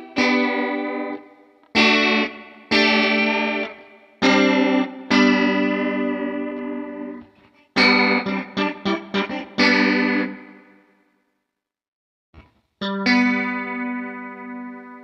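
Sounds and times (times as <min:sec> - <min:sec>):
electric guitar strumming chords: 0:00.0 - 0:10.7, 0:12.8 - 0:15.0.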